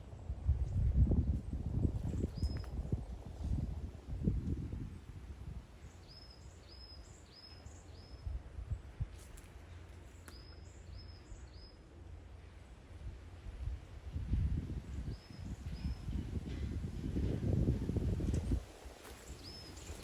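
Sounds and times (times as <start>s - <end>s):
wind rumble on microphone: 0.0s - 9.8s, 12.7s - 20.0s.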